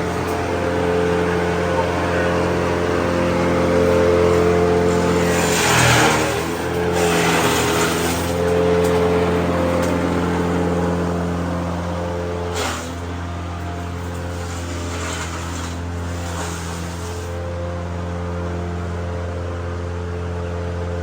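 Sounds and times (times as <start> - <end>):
grass-chopping machine motor: 0.0 - 21.0.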